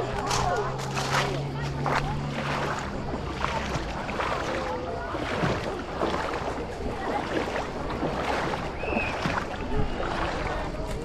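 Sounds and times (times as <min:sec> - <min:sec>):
distant crowd voices: 0:00.0 - 0:11.0
water splashing and lapping: 0:00.0 - 0:11.0.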